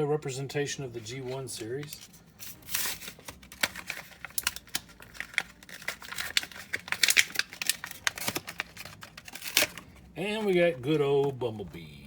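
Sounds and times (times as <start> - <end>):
plastic packaging crinkling: 1.0 - 11.5.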